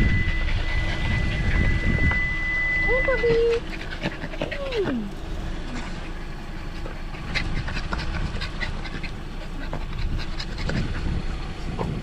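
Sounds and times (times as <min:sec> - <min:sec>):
dog panting: 0:00.0 - 0:02.2, 0:02.8 - 0:12.0
low background rumble: 0:00.0 - 0:12.0.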